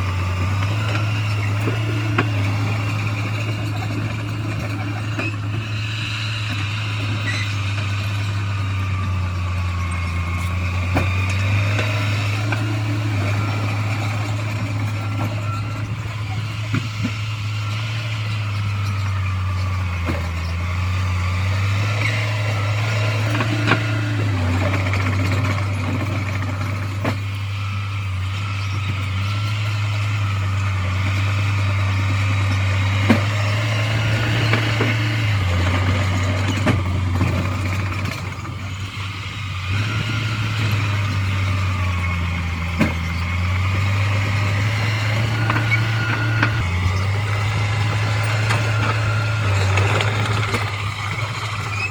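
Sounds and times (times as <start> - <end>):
heavy machinery diesel engine: 0.0 - 51.9.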